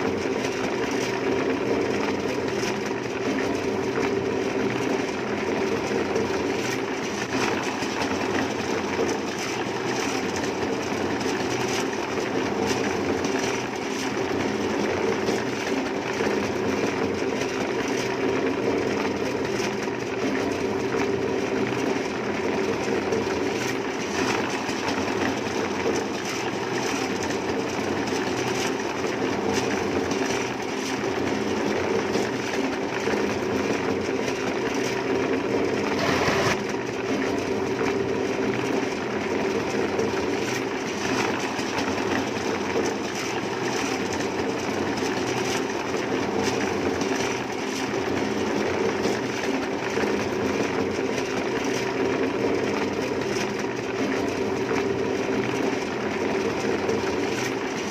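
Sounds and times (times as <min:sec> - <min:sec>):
machine motor humming and rattling: 0:00.0 - 0:57.9.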